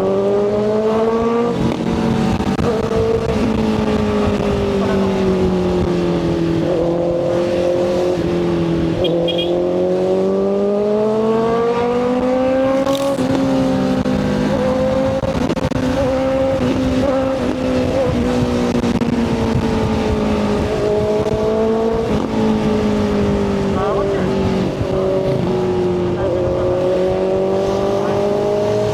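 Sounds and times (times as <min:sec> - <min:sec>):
motorcycle engine: 0:00.0 - 0:28.9
wind and road noise: 0:00.0 - 0:28.9.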